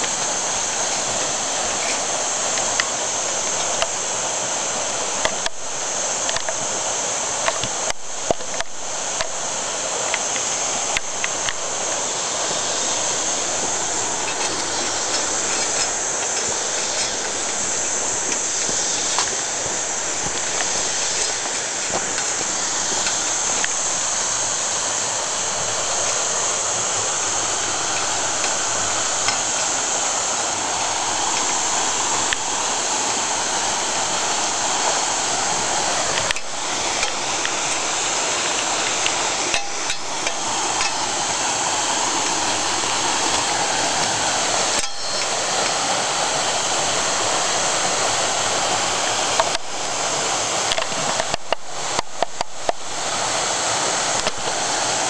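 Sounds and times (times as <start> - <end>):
waterfall roar: 0.0 - 55.0.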